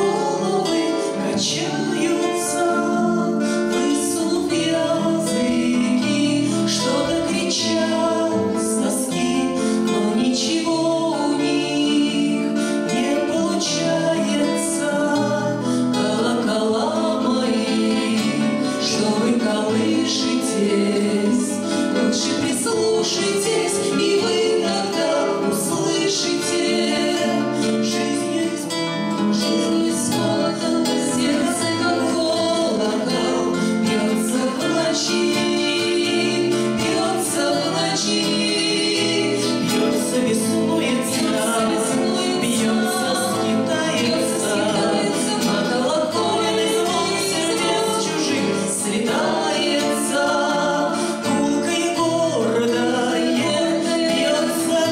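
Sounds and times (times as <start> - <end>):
acoustic guitars: 0.0 - 54.9
two women singing: 0.0 - 54.9.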